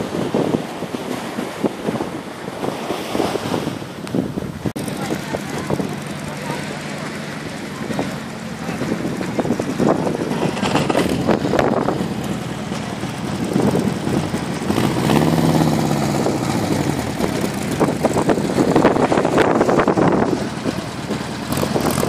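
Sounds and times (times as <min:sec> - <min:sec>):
buggy engines idling: 0:03.9 - 0:22.0.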